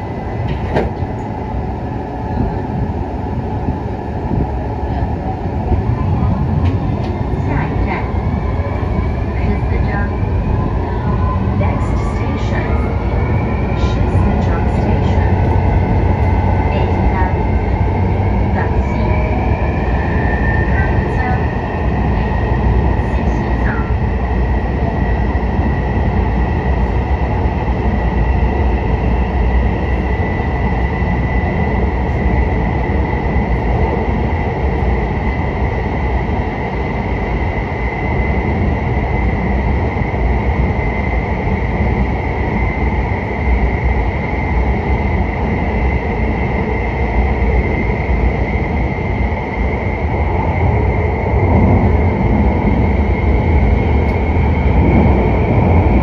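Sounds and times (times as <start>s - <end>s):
high train whine: 0.0s - 56.0s
metro train rumbling in tunnel: 0.0s - 56.0s.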